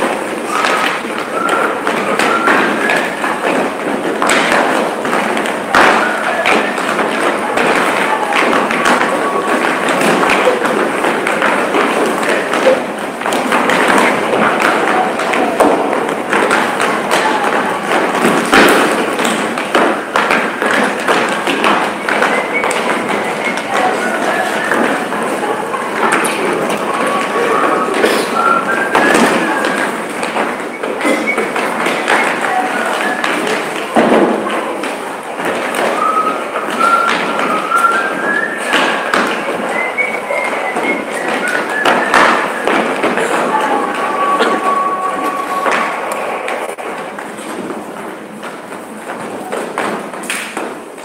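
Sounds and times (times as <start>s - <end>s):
feet running on wooden floor: 0.0s - 51.0s.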